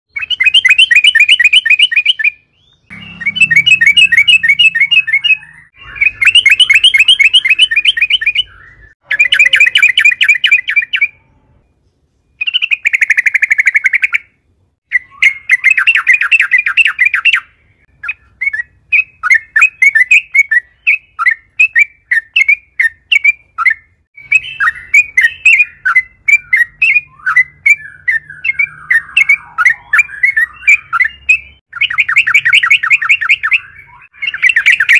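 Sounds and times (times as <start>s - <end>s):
bird singing chattering phrases: 0.1s - 11.4s, 14.9s - 34.9s.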